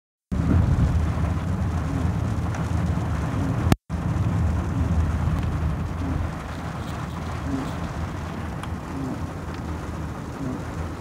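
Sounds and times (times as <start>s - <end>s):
engine and tyre rumble: 0.3s - 11.0s.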